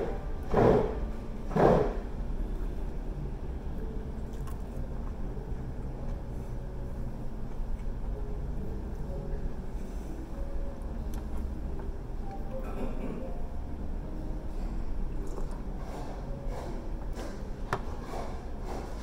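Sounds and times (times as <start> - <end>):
restaurant room rumble: 0.0 - 19.0.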